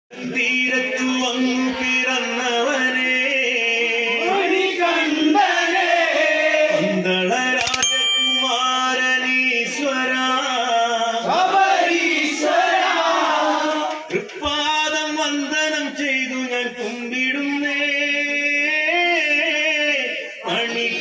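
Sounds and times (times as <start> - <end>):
men singing devotional song: 0.1 - 21.0.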